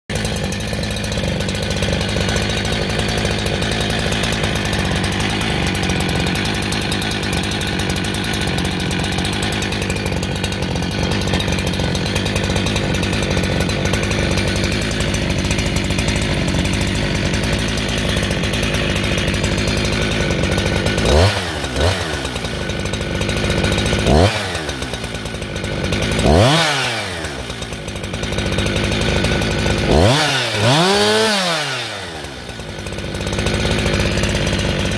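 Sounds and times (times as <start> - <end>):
chainsaw idling and revving: 0.1 - 34.9.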